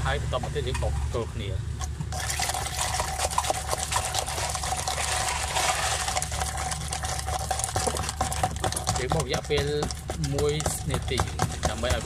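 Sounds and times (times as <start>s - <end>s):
liquid sloshing: 1.8s - 12.0s
whisk clicking against cup: 1.8s - 12.0s
drink mixer motor whining: 1.9s - 12.0s.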